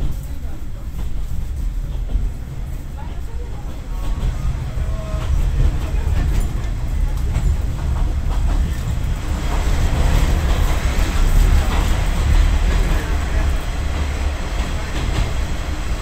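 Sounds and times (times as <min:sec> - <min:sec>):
train rumbling on rails: 0:00.0 - 0:16.0
wheels clacking over rail joints: 0:00.0 - 0:16.0.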